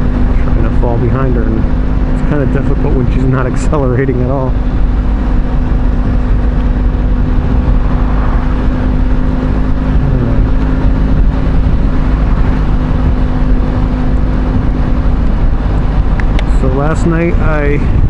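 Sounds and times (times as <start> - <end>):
motorcycle engine running: 0.0 - 18.0
road noise on wet road: 0.0 - 18.0
wind noise: 0.0 - 18.0.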